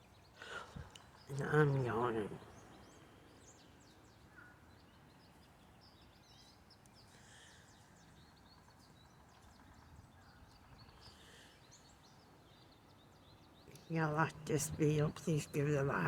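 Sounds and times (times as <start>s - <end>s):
outdoor background hiss: 0.0s - 16.0s
small birds chirping: 0.0s - 16.0s.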